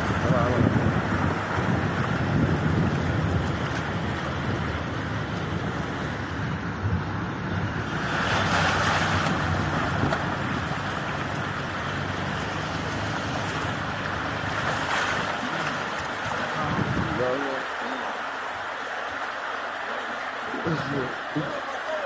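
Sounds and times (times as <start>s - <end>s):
vehicle engine running low: 0.0s - 22.0s
water churned by tyres: 0.0s - 22.0s.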